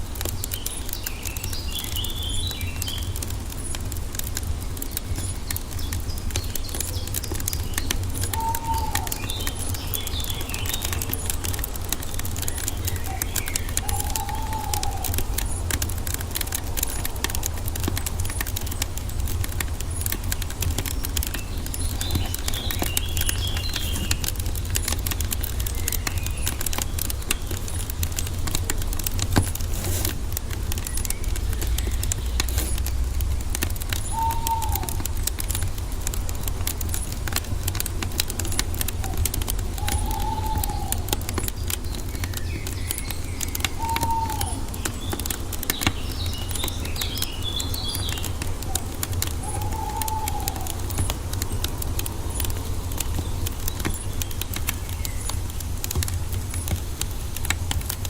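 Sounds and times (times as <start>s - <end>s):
wood fire crackling: 0.0s - 58.0s
birds calling: 0.1s - 58.0s.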